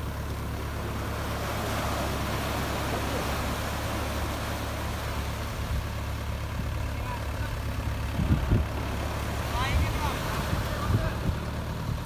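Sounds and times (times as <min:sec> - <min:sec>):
small waves washing on sand: 0:00.0 - 0:12.0
tractor engine running: 0:00.0 - 0:12.0.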